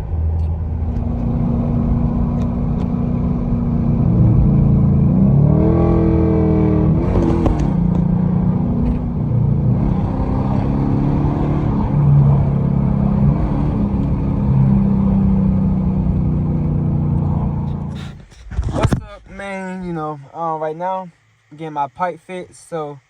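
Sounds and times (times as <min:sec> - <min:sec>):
car engine and damaged exhaust: 0:00.0 - 0:19.4.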